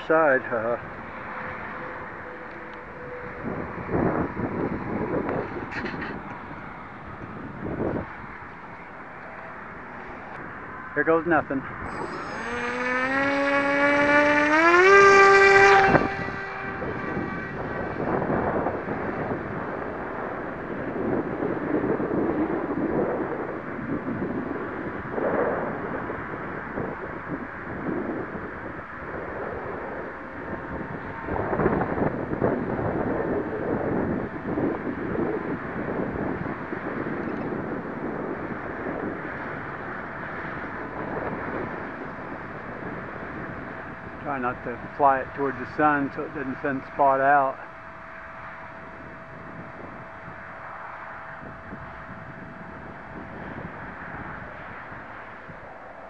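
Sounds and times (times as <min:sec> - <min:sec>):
electric motor and propeller whining: 0:00.0 - 0:56.0
wind on microphone: 0:00.0 - 0:56.0.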